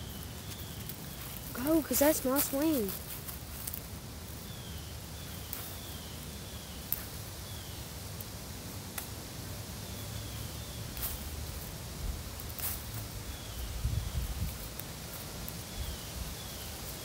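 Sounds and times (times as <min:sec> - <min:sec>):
leaves and stems rustling and snapping: 0:00.0 - 0:17.0.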